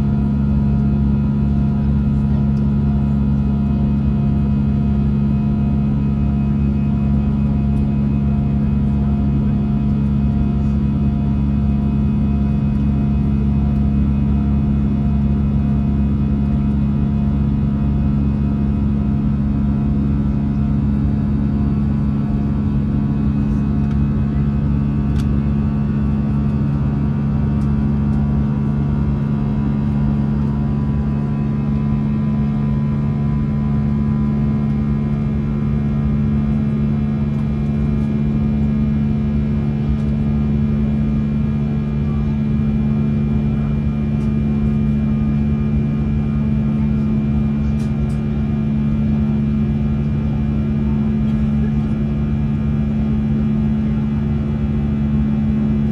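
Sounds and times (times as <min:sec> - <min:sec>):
jet airliner cabin drone: 0:00.0 - 0:55.9.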